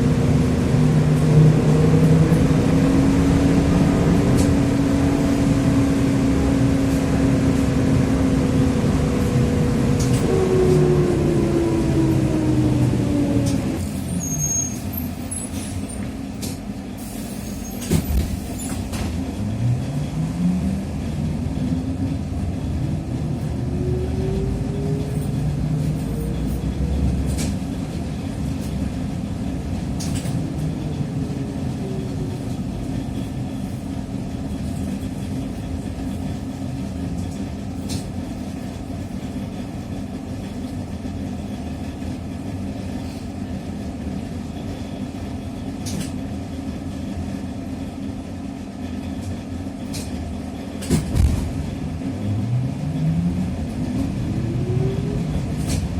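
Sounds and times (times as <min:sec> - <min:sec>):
trolleybus motor whine: 0:00.0 - 0:55.9
trolleybus rumble: 0:00.0 - 0:55.9.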